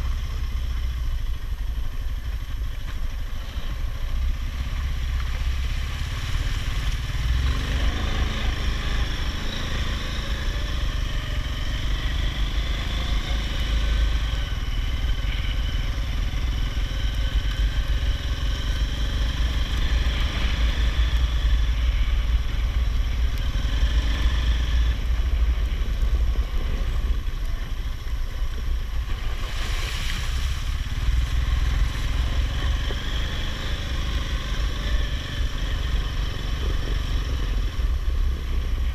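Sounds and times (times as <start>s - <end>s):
all-terrain vehicle engine: 0.0s - 38.9s.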